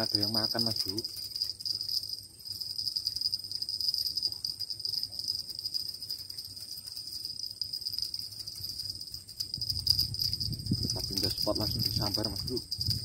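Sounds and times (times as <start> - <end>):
high-pitched insect chorus buzzing: 0.0 - 13.0.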